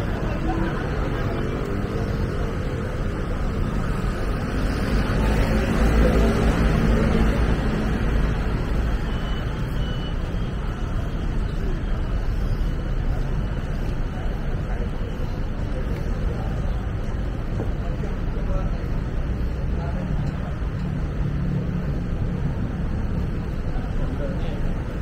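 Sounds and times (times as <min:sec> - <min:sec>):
steady traffic hum: 0:00.0 - 0:25.0.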